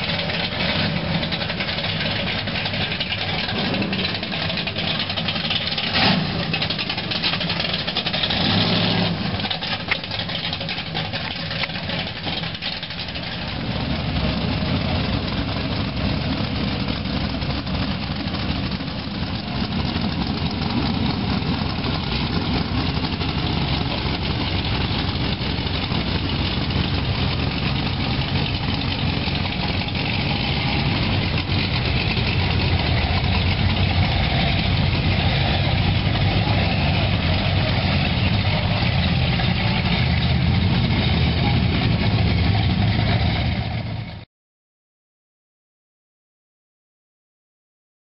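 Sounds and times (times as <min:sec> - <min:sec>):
car engines rumbling past: 0:00.0 - 0:44.2
hot rod engine: 0:00.0 - 0:44.2.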